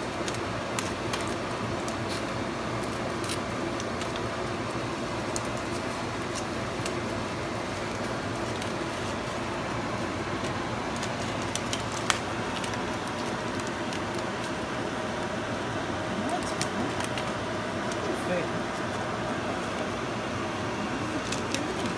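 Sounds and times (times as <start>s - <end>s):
aluminium foil crinkling: 0.0s - 21.9s.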